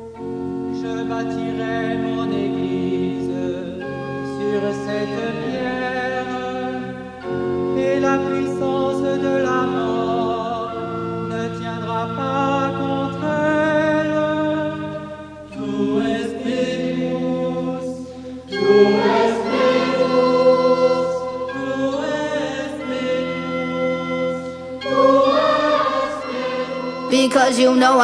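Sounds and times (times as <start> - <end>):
choir singing held chords: 0.0 - 28.0.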